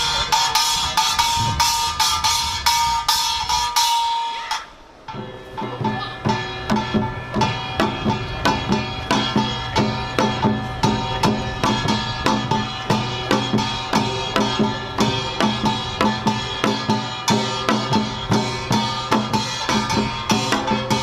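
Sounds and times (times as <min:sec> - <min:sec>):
drums in fast steady beat: 0:00.0 - 0:21.0
small gong clanging: 0:00.0 - 0:21.0.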